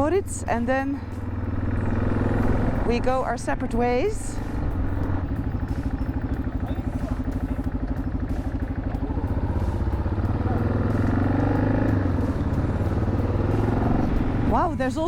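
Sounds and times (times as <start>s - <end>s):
single-cylinder motorcycle engine: 0.0s - 15.0s.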